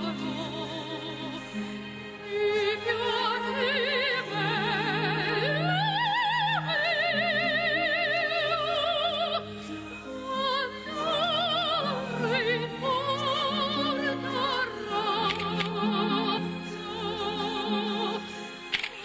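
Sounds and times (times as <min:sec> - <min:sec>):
operatic singing: 0:00.0 - 0:19.0
orchestral accompaniment: 0:00.0 - 0:19.0.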